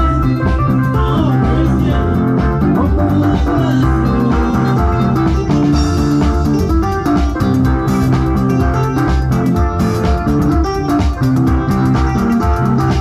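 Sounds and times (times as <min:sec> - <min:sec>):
music with plucked guitar and beat: 0:00.0 - 0:13.0.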